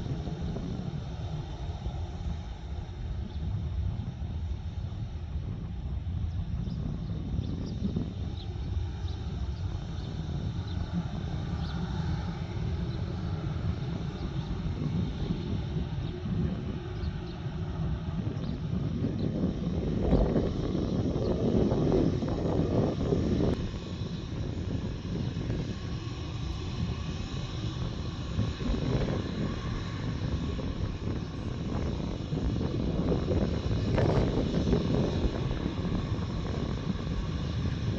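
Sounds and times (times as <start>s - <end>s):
distant jet engines rumbling: 0.0s - 37.9s.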